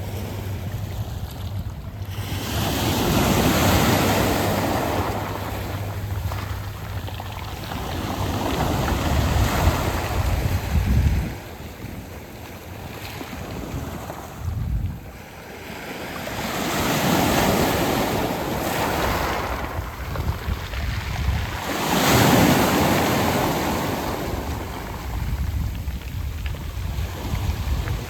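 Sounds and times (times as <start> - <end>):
waves washing onto pebbles: 0.0 - 14.4, 15.0 - 28.0
wind buffeting microphone: 0.0 - 15.6, 16.5 - 28.0.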